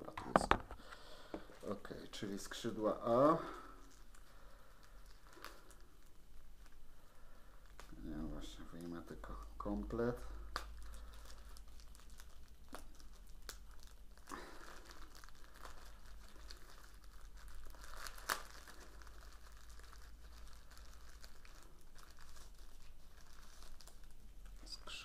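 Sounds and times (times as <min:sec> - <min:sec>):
plastic packaging crinkling: 0:00.0 - 0:25.0.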